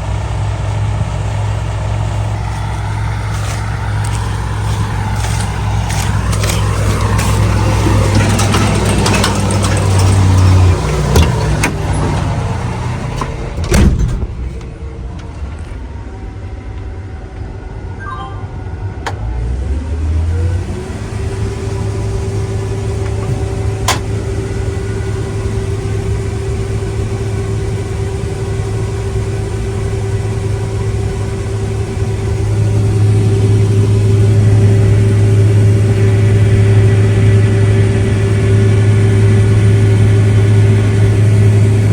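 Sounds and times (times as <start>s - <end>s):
farm machinery engine running: 0.0s - 17.1s, 19.0s - 41.9s.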